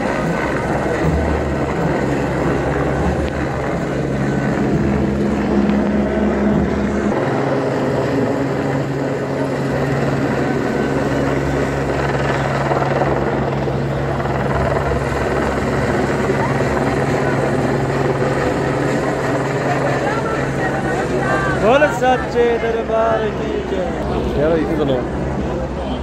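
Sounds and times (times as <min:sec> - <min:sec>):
helicopter flying overhead: 0:00.0 - 0:26.0.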